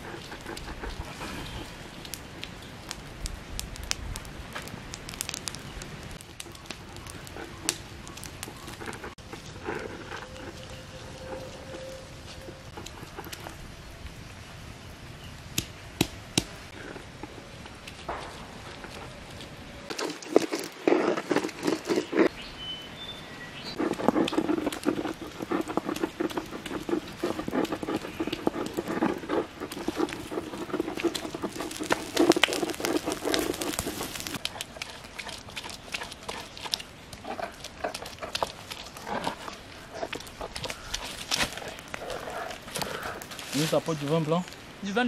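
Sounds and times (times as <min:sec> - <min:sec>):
leaves rustling and scraping: 0:00.0 - 0:45.0.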